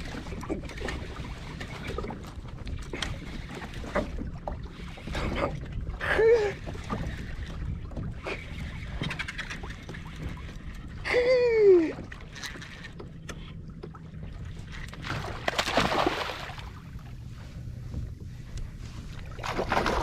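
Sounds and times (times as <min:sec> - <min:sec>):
water splashing around kayak: 0:00.0 - 0:20.0.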